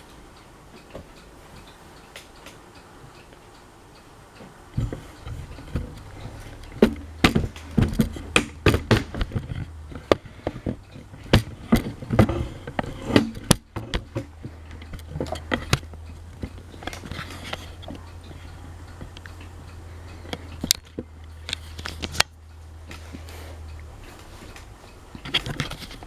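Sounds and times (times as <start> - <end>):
steady low hum: 0.0 - 26.0
hard parts clicking and knocking: 0.8 - 26.0.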